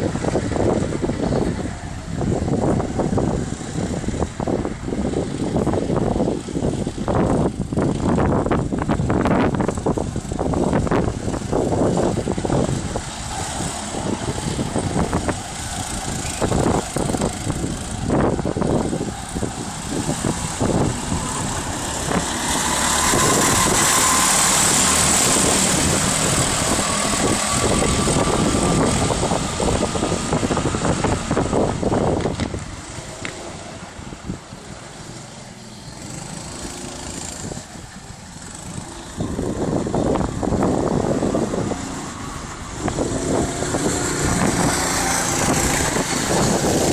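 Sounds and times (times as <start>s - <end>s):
go-kart engines racing: 0.0s - 46.9s.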